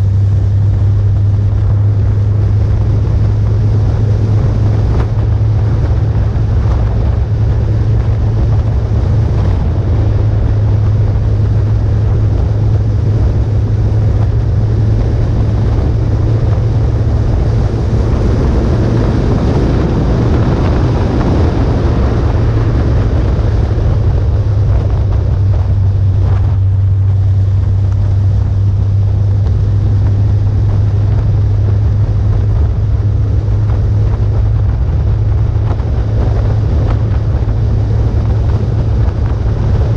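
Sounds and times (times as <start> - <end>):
motorcycle engine droning: 0.0 - 39.9
wind buffeting microphone: 0.0 - 39.9.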